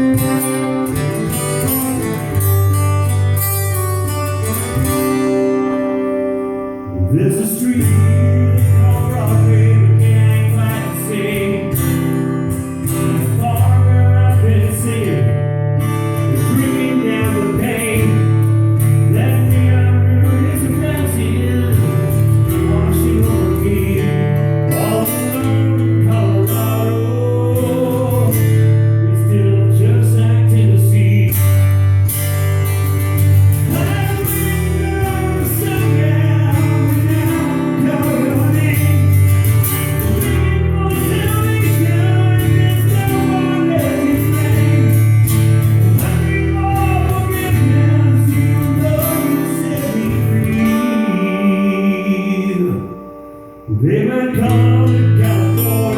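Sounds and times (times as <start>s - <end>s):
bass line: 0.0s - 50.8s
guitar: 0.0s - 55.9s
man singing: 5.1s - 32.1s, 33.4s - 55.9s.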